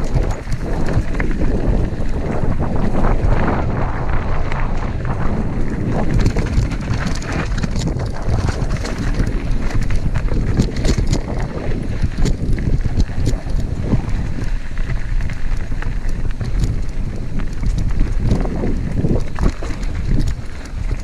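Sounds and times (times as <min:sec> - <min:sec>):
bike clicks and rattles: 0:00.0 - 0:21.0
bike tyres on dirt: 0:00.0 - 0:21.0
wind buffeting microphone: 0:00.0 - 0:21.0.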